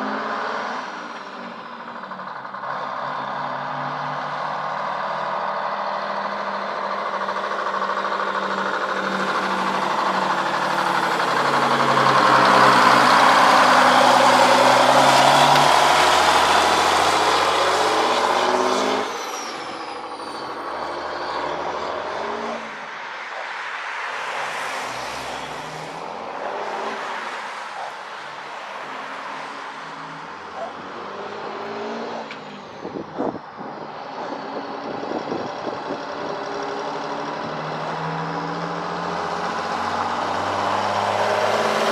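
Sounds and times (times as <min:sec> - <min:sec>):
diesel truck engine: 0:00.0 - 0:41.9.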